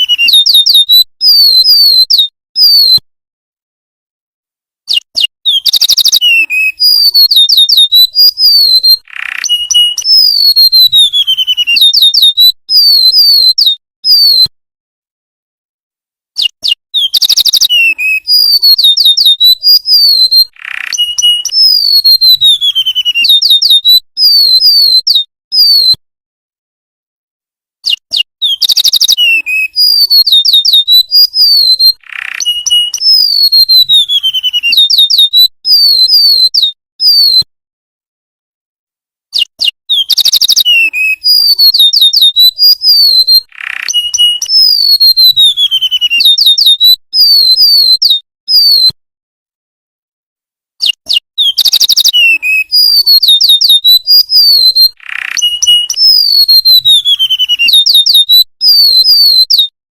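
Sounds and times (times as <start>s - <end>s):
bird song whistles and trills: 0.0s - 3.0s, 4.9s - 14.5s, 16.4s - 26.0s, 27.8s - 37.5s, 39.3s - 49.0s, 50.8s - 59.7s.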